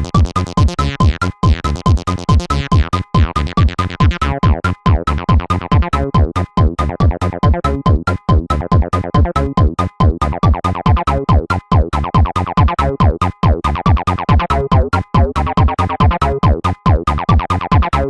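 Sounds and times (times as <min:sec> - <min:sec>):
drum machine kick: 0:00.0 - 0:18.0
pulsing synthesizer line: 0:00.0 - 0:18.0.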